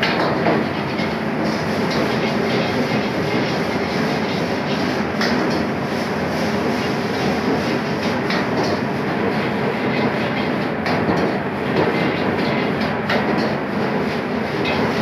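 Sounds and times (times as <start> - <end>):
gas burner roar: 0.0 - 15.0.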